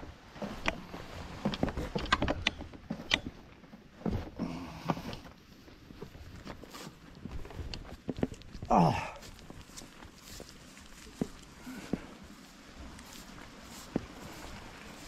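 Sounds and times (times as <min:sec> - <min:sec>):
clothing rustle: 0:00.0 - 0:15.0
footsteps on steps and grass: 0:00.0 - 0:15.0.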